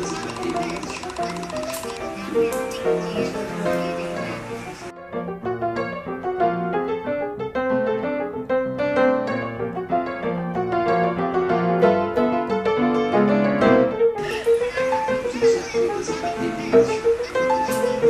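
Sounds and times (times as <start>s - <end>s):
light piano melody: 0.0s - 18.0s.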